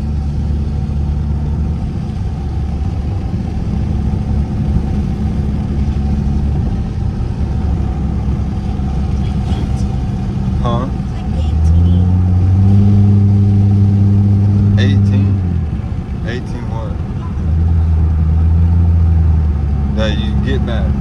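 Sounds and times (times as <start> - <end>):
car exhaust droning: 0.0 - 21.0.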